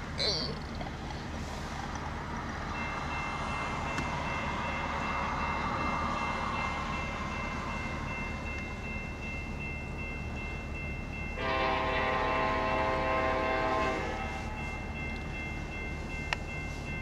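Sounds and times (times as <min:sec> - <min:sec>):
railroad crossing bell ringing: 0:02.4 - 0:17.0.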